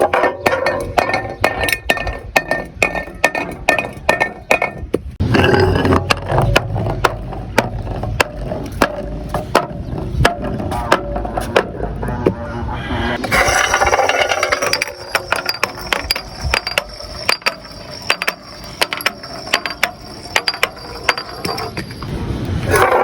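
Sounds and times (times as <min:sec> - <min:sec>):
glass bottles clinking down stairs: 0:00.0 - 0:11.8, 0:13.3 - 0:22.1.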